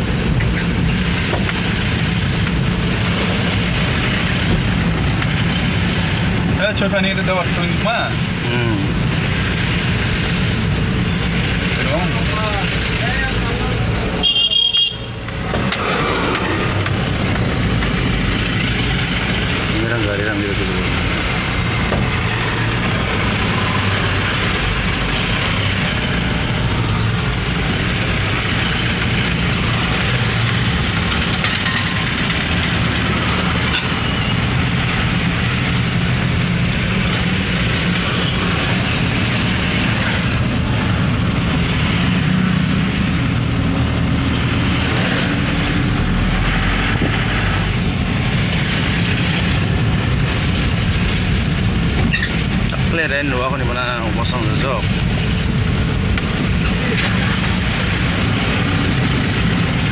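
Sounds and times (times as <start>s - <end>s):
road noise inside vehicle: 0.0s - 59.9s
vehicle engine hum: 0.0s - 59.9s.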